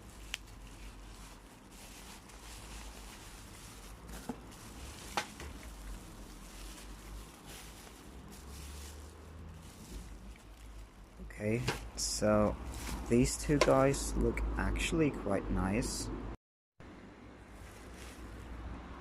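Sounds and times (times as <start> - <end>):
soft rustling of toys: 0.0 - 14.1, 17.4 - 19.0
low steady rumble: 0.0 - 19.0.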